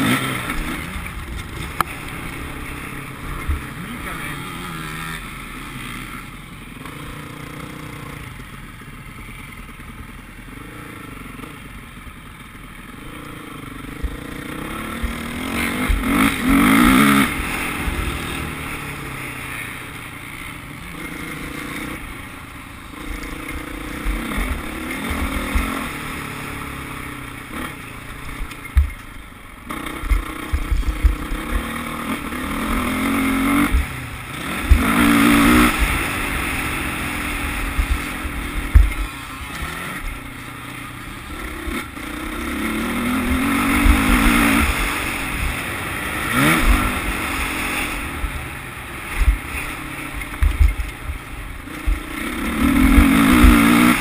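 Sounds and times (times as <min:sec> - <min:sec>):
dirt bike engine revving: 0:00.0 - 0:08.4, 0:12.9 - 0:54.0.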